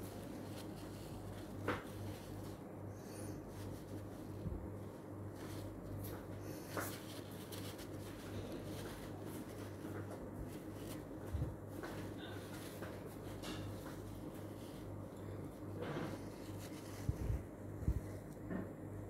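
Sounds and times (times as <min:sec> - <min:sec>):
tissue rubbing on glass jar: 0:00.0 - 0:18.3
low steady hum: 0:00.0 - 0:19.0.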